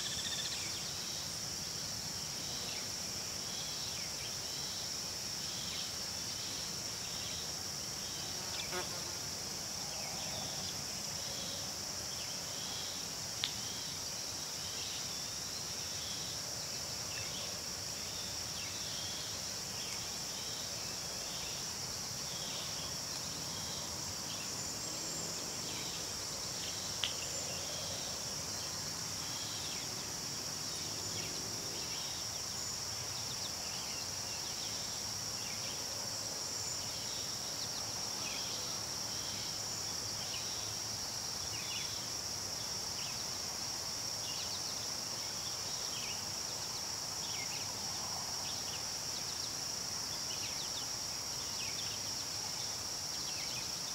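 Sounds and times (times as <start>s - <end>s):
insect chorus: 0.0s - 53.9s.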